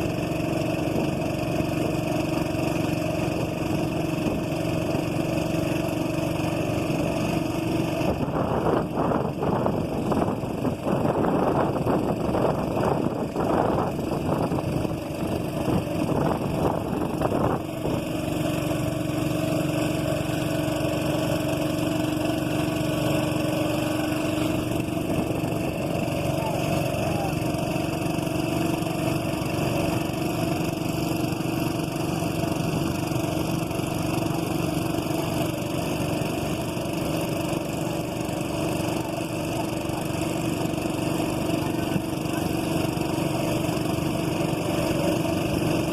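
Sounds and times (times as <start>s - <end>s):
boat engine running: 0.0s - 45.9s
rough pulsing noise: 0.0s - 45.9s.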